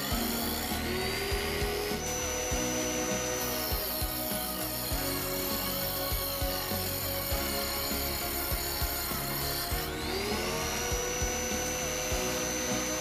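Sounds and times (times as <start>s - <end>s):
background music: 0.0s - 13.0s
table saw cutting wood: 0.0s - 13.0s.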